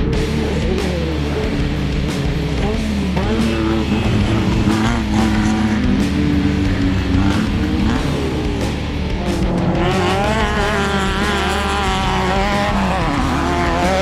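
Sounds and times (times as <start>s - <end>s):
background music: 0.0s - 14.0s
race vehicle engines revving: 0.0s - 14.0s.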